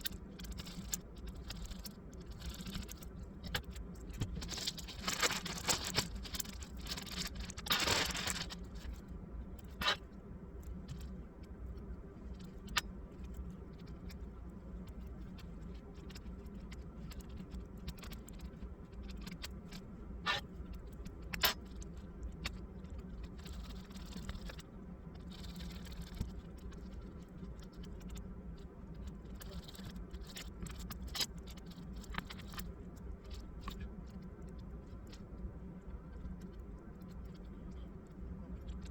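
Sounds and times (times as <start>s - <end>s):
small parts clicking and rattling: 0.0s - 11.5s, 12.3s - 28.2s, 28.9s - 33.9s
steady low hum: 0.0s - 38.9s.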